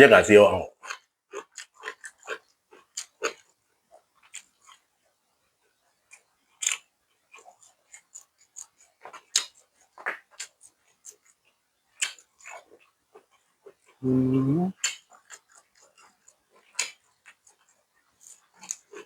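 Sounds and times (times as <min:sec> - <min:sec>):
chewing and crunching food: 0:00.7 - 0:14.0, 0:14.7 - 0:19.0.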